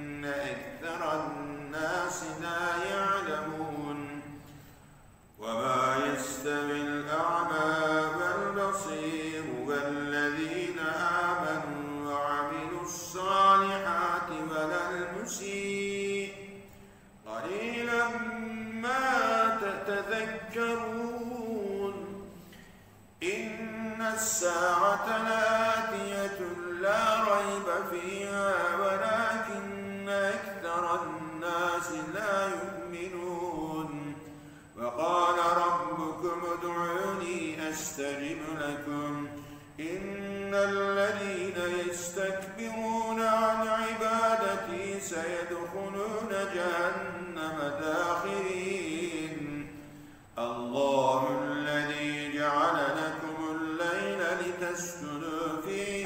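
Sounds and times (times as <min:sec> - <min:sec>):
man chanting melodically: 0:00.0 - 0:04.5, 0:05.4 - 0:22.5, 0:23.2 - 0:56.0.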